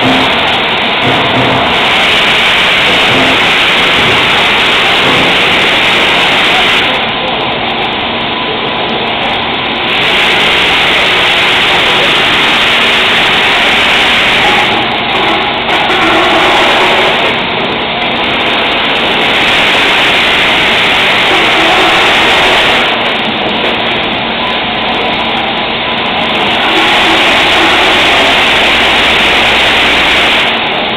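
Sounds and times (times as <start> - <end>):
production machine running: 0.0 - 30.9.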